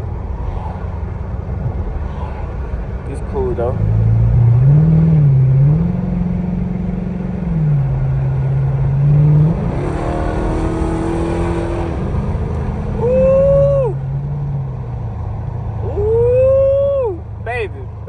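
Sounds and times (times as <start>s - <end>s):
car engine revving while driving: 0.0s - 16.4s.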